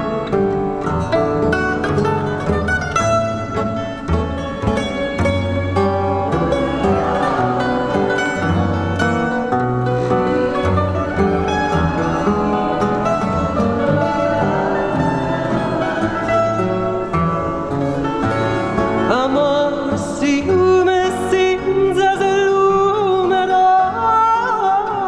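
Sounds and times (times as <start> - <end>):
bass: 0.0 - 25.0
guitars plucking: 0.0 - 25.0
man singing with vibrato: 4.4 - 25.0.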